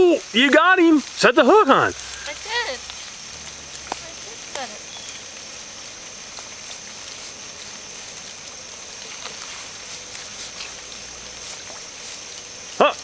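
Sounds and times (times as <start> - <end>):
faint drips: 0.0 - 13.0
light rain hissing: 0.0 - 13.0.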